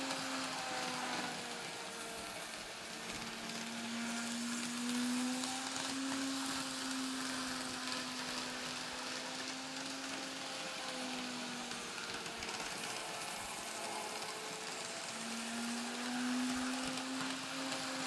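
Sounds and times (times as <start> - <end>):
model locomotive motor whining: 0.0 - 18.0
wheels hissing on track: 0.0 - 18.0.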